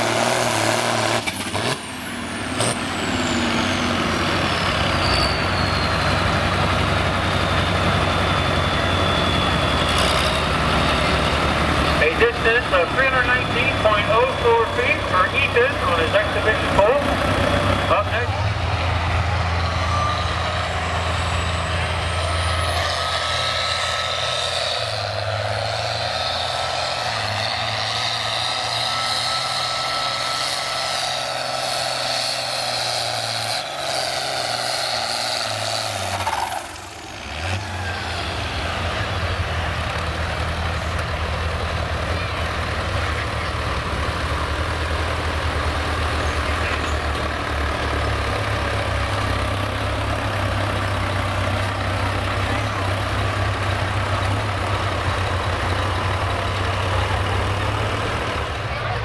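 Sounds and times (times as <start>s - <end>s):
tractor engine at full throttle: 0.0s - 59.0s.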